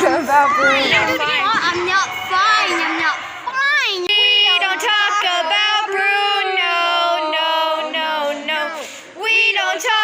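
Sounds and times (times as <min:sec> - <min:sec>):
high-pitched voices singing: 0:00.0 - 0:10.0.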